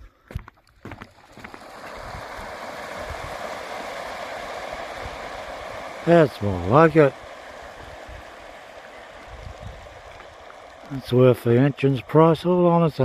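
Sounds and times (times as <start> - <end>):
rushing water: 1.1 - 13.0.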